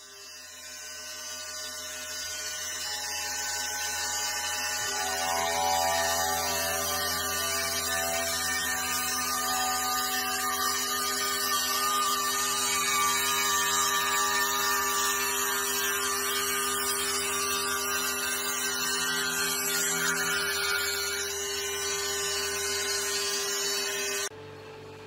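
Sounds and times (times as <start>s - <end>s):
cutter hissing through wood: 1.0s - 24.3s
milling machine spindle hum: 1.7s - 24.3s.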